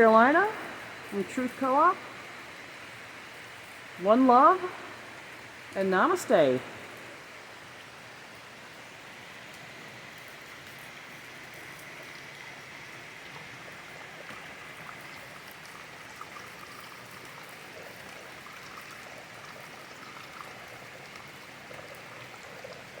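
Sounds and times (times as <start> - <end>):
water running and splashing: 0.0 - 23.0.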